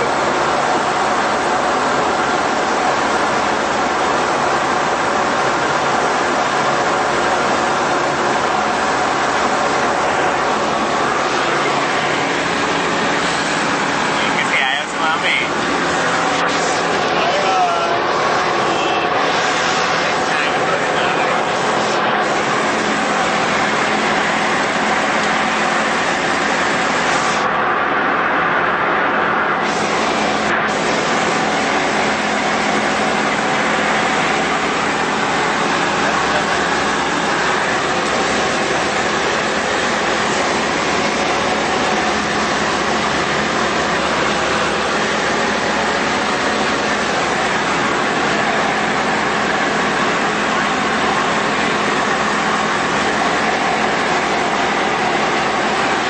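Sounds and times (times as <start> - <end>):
air rushing over cabin: 0.0 - 56.0
aircraft engine and propeller drone: 0.0 - 56.0.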